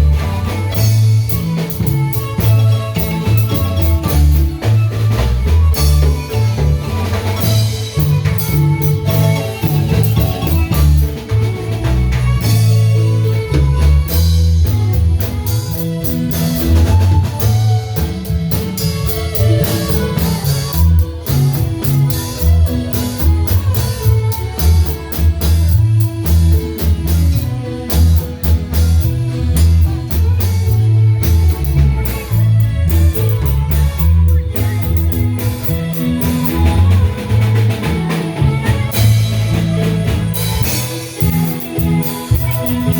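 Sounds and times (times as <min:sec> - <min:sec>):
bass line: 0:00.0 - 0:42.9
drum kit: 0:00.0 - 0:42.9
marimba notes: 0:00.0 - 0:42.9.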